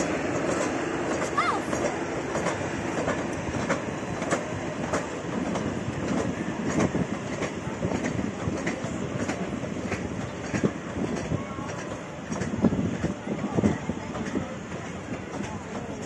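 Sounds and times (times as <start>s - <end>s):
train rolling rumble: 0.0s - 16.0s
wheel clicks on rail joints: 0.0s - 16.0s.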